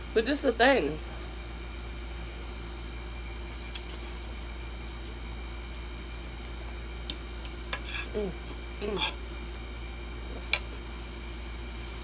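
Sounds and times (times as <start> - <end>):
steady low hum: 0.0 - 12.0
person chewing food: 1.8 - 12.0.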